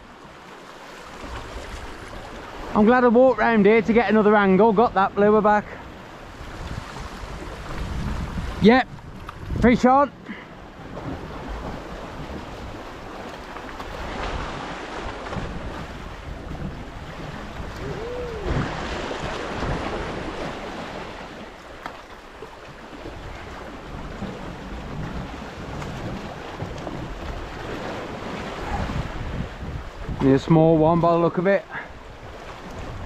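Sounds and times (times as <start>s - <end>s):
sea water washing against rocks: 0.0s - 33.0s
wind buffeting the microphone: 1.1s - 33.0s.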